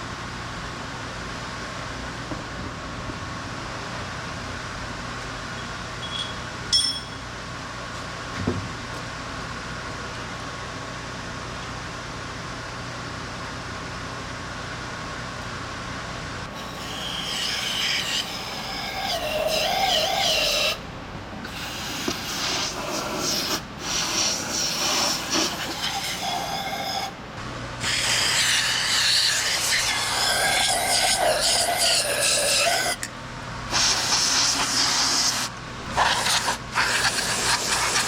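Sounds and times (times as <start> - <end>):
low workshop hum: 0.0 - 38.0.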